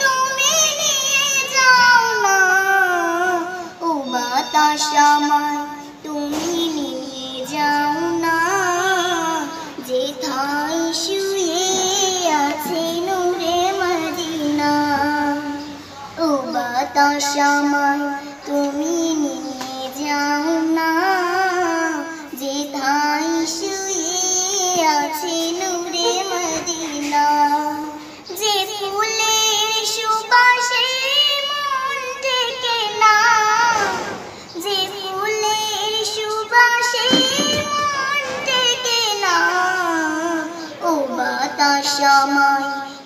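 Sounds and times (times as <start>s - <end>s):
girl singing solo: 0.0s - 43.0s.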